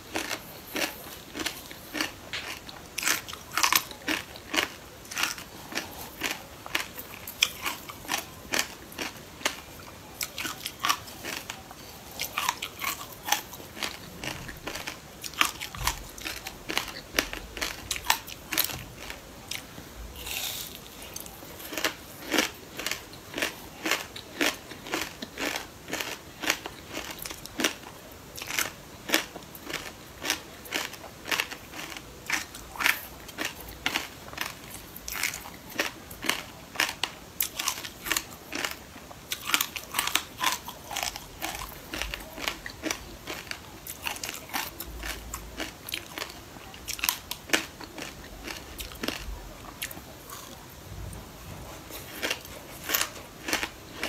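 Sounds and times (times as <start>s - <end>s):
crunching and chewing crisp food: 0.0s - 54.0s.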